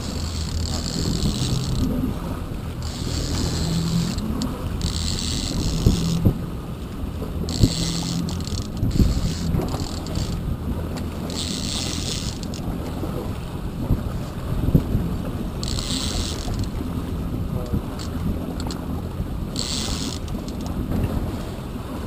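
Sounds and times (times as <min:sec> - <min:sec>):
boat engine humming: 0:00.0 - 0:22.0
water washing at stern: 0:00.0 - 0:22.0
wind buffeting microphone: 0:00.0 - 0:22.0.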